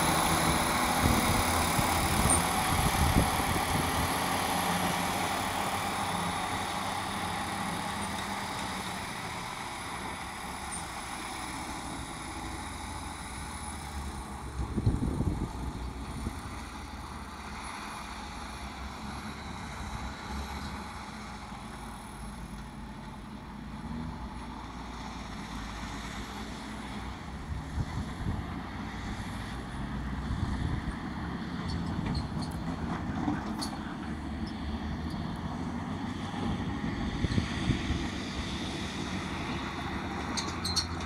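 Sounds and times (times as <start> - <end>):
diesel engines rumbling: 0.0 - 41.0.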